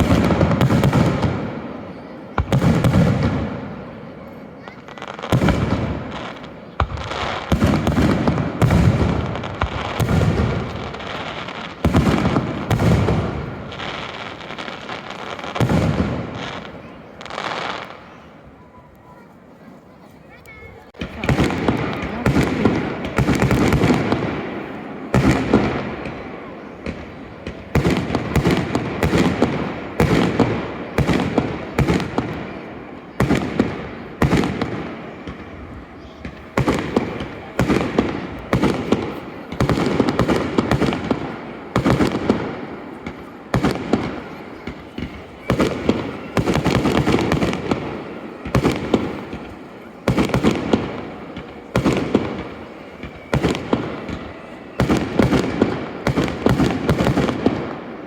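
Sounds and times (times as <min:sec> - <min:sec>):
fireworks bangs echoing: 0:00.0 - 0:58.0.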